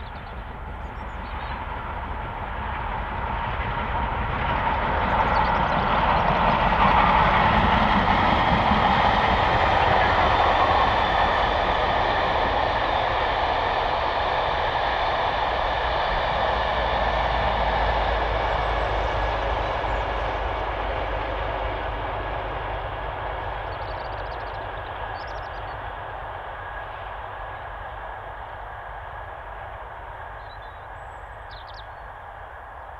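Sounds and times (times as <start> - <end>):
steam train running on rails: 0.0 - 32.9.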